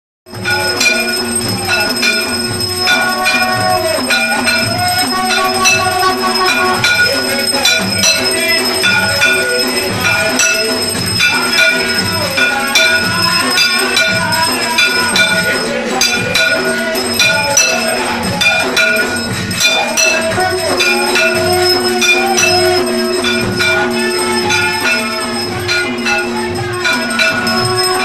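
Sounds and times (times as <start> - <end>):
temple bells ringing: 0.3 - 28.0
devotional music: 0.4 - 28.0.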